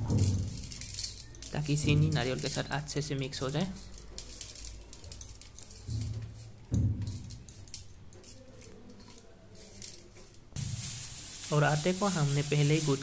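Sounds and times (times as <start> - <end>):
hand mixing in steel plate: 0.0 - 13.0.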